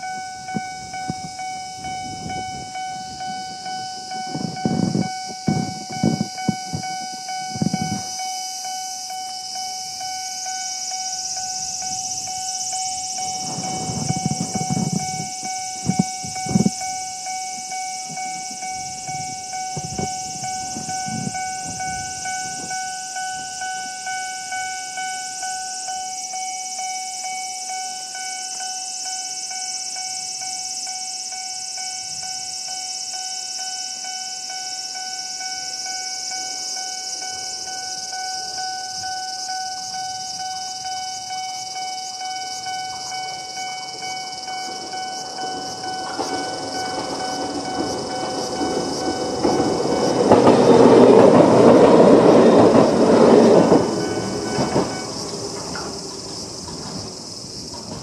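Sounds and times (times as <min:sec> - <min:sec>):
approaching train: 0:00.0 - 0:58.0
electronic crossing warning bell: 0:00.0 - 0:58.0.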